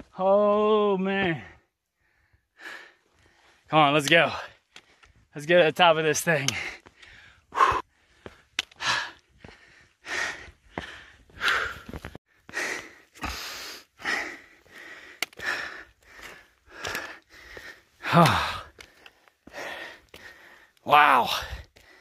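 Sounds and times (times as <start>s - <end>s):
person breathing hard: 1.5s - 3.7s, 6.5s - 22.0s.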